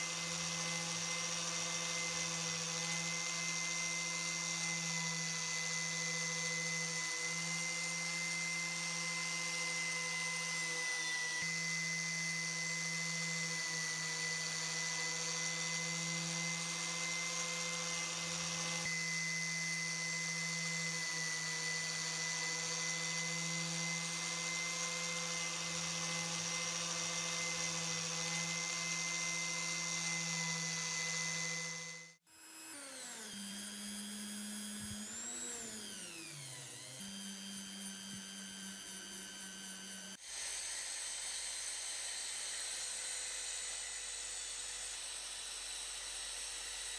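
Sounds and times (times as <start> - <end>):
power tool motor whining: 0.0 - 46.9
steady motor sound: 0.0 - 46.9.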